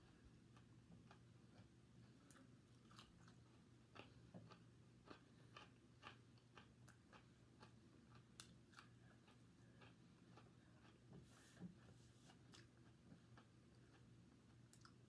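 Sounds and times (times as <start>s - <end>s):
low steady hum: 0.0s - 15.0s
chewing and mouth clicks: 0.1s - 11.1s, 12.3s - 15.0s.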